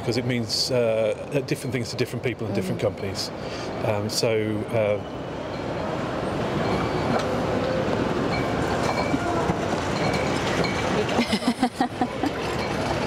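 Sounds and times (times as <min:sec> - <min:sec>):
many distant voices: 0:00.0 - 0:13.0.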